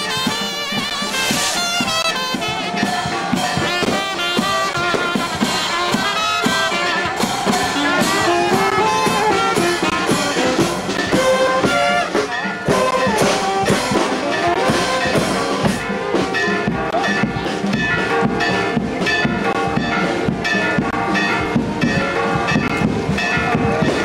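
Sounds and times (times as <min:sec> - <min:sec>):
brass band playing: 0:00.0 - 0:24.0
drums: 0:00.0 - 0:24.0.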